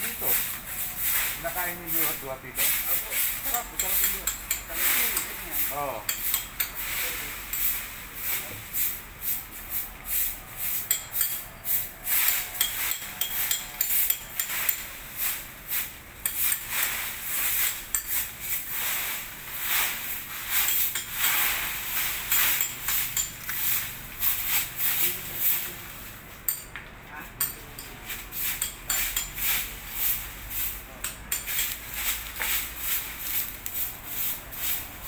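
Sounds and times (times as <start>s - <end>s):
hand tool scraping stone: 0.0s - 7.8s, 10.2s - 18.8s, 19.8s - 25.6s, 27.4s - 35.0s.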